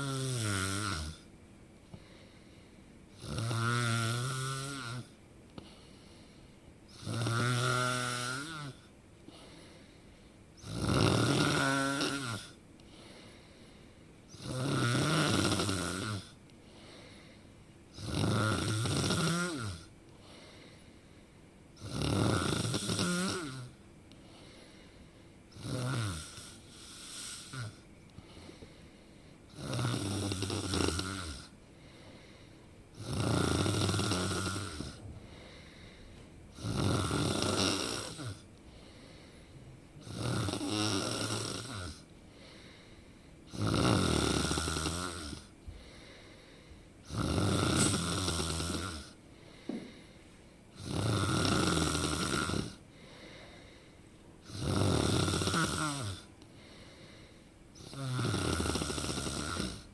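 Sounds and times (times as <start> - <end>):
person snoring: 0.0 - 1.3, 3.2 - 5.8, 6.9 - 9.6, 10.6 - 13.5, 14.3 - 17.3, 18.0 - 20.6, 21.8 - 23.8, 25.5 - 27.8, 29.5 - 50.1, 50.7 - 59.9.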